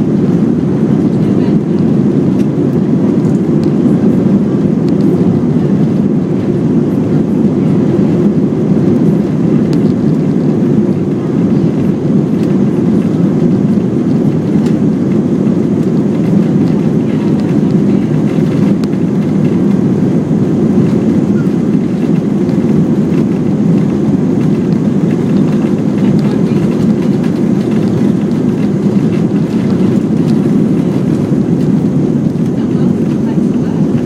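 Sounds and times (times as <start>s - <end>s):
airliner cabin engine drone: 0.0s - 34.0s.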